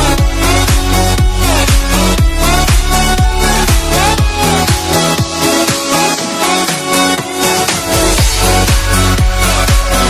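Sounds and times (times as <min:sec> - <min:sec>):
steady kick drum: 0:00.0 - 0:05.9, 0:07.2 - 0:10.0
electronic dance music: 0:00.0 - 0:10.0
heavy bass line: 0:00.0 - 0:10.0.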